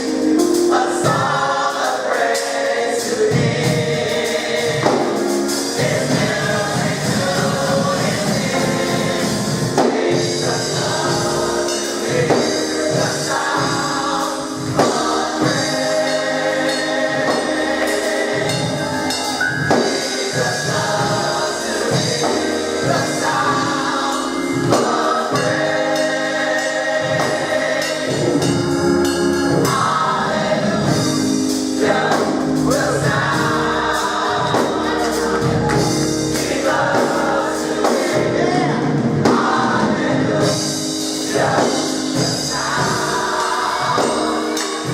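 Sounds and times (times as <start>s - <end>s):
gospel choir singing: 0.0s - 44.9s
instrumental accompaniment with beat: 0.0s - 44.9s.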